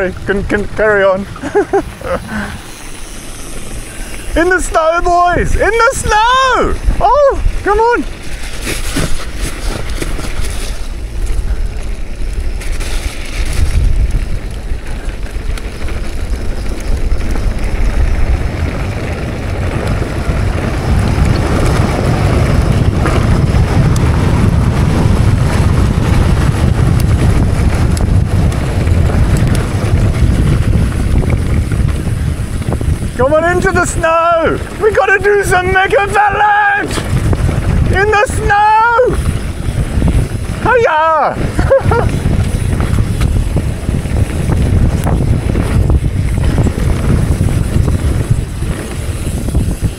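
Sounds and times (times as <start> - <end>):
wind rushing over microphone: 0.0 - 49.9
bike knocks and rattles: 6.8 - 34.8, 36.9 - 49.9.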